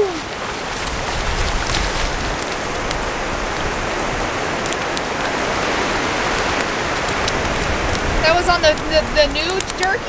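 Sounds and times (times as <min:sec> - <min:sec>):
surf washing up beach: 0:00.0 - 0:10.0.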